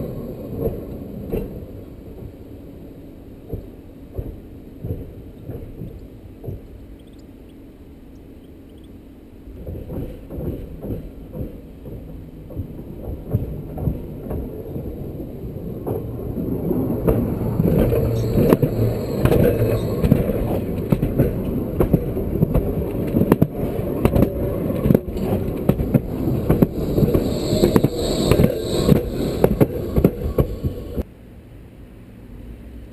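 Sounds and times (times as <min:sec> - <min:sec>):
wheels clattering on rails: 0:00.0 - 0:02.7, 0:03.4 - 0:07.2, 0:09.5 - 0:31.0
tram rolling past: 0:00.0 - 0:31.1.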